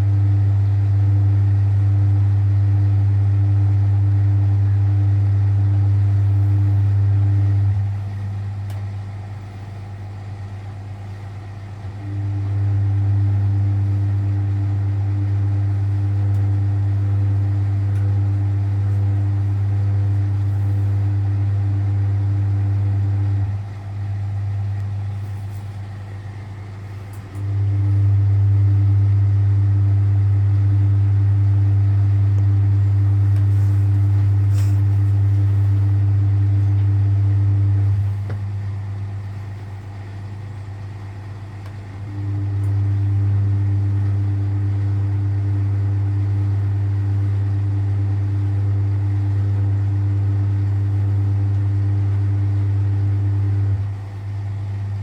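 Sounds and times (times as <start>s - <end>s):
washer motor humming: 0.0s - 55.0s.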